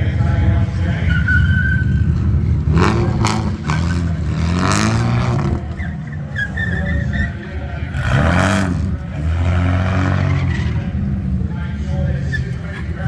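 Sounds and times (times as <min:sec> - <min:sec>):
car engine revving: 0:00.0 - 0:13.0
tyres skidding: 0:00.0 - 0:13.0.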